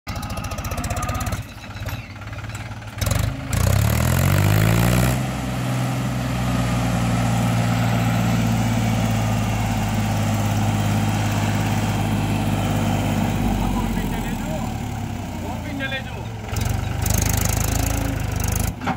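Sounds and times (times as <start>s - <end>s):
tractor diesel engine revving: 0.1s - 18.9s.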